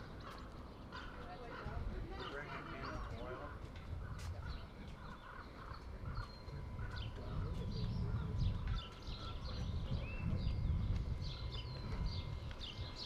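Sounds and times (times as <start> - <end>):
birds chirping: 0.0 - 13.0
low uneven rumble: 0.1 - 13.0.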